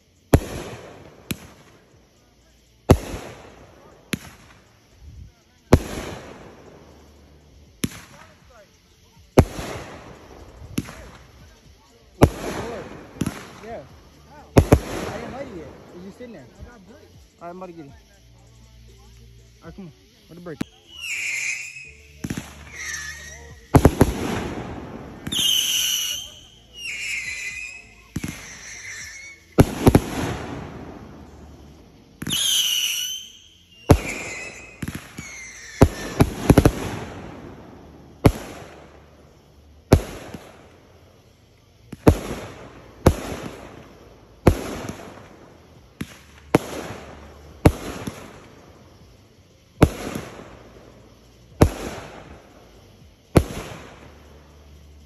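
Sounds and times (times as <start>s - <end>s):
fireworks bangs: 0.0s - 1.9s, 2.6s - 16.6s, 20.2s - 40.8s, 41.8s - 54.3s
rushing firework bursts: 0.0s - 55.0s.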